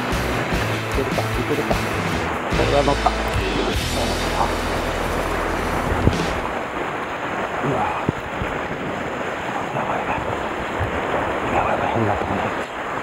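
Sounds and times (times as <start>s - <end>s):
surf breaking over rocks: 0.0s - 13.0s
wind buffeting microphone: 0.0s - 13.0s.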